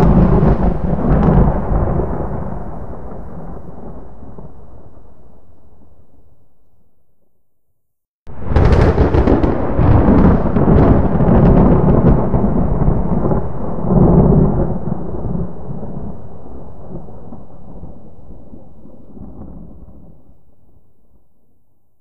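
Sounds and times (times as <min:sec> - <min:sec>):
thunderclap crackling and rumbling: 0:00.0 - 0:06.2, 0:08.3 - 0:21.2.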